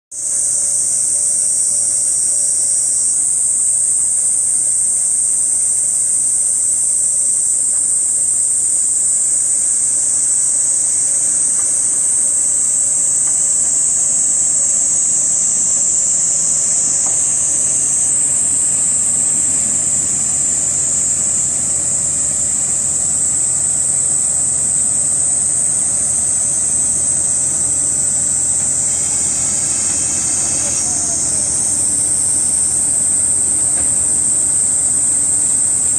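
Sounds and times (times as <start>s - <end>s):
cicadas shrilling: 0.1s - 35.9s
diesel railcar rumbling: 0.2s - 35.9s.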